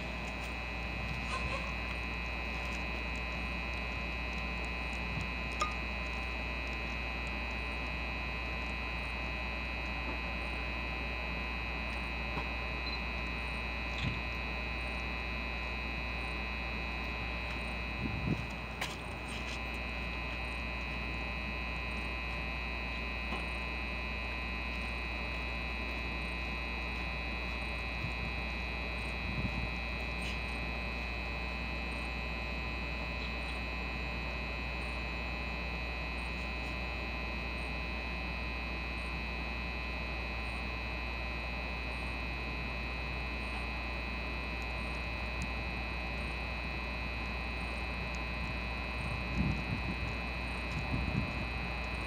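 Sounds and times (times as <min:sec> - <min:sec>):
high-pitched whines: 0:00.0 - 0:52.0
steady electrical hum: 0:00.0 - 0:52.0.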